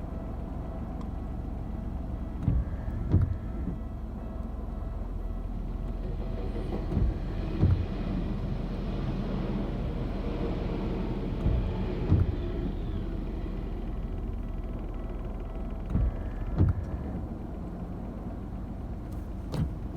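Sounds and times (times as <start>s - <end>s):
electric train rumbling: 0.0s - 19.9s.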